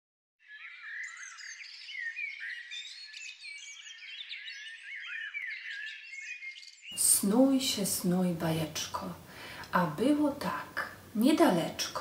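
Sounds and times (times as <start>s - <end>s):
songbirds chirping: 0.4s - 12.0s.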